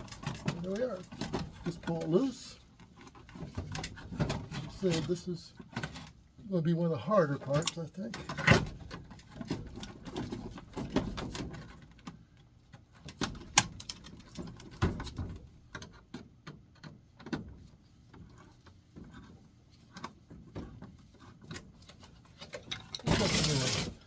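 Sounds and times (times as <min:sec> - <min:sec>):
clicks and knocks of hand work: 0:00.0 - 0:06.2, 0:07.4 - 0:24.0.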